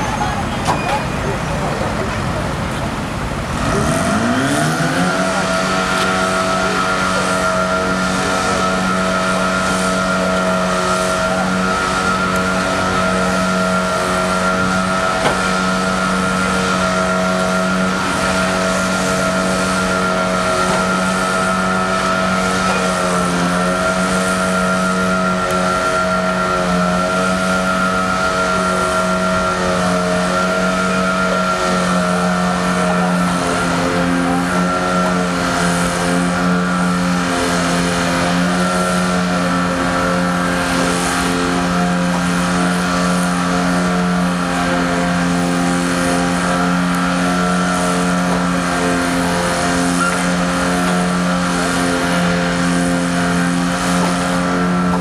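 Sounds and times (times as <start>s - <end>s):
diesel engine revving: 0.0s - 55.0s
high whine: 0.0s - 55.0s.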